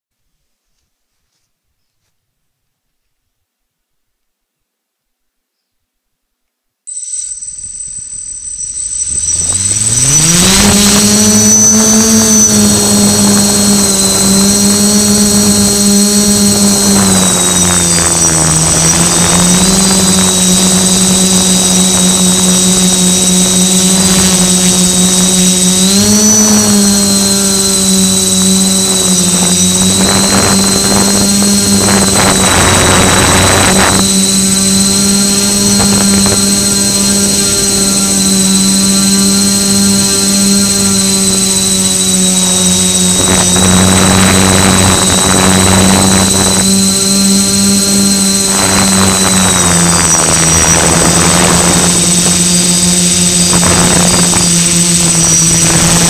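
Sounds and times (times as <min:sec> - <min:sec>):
drone motors buzzing and whining: 0:06.9 - 0:56.0
rushing air noise: 0:07.4 - 0:56.0.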